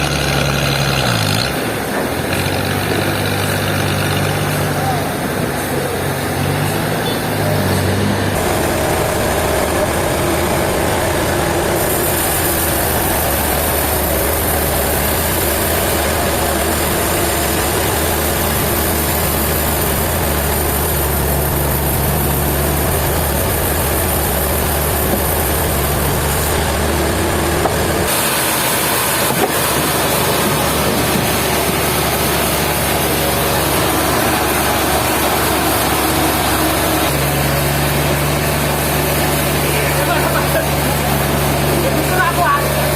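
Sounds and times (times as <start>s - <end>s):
large engine running steadily: 0.0s - 42.9s.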